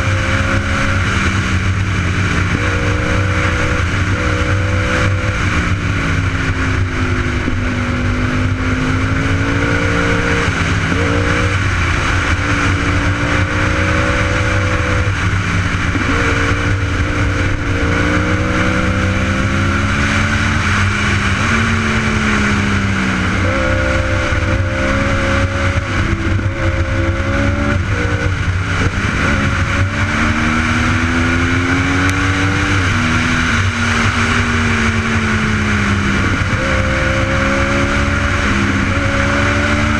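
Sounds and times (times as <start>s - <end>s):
motorcycle engine shifting gears: 0.0s - 39.9s
wind rush: 0.0s - 39.9s.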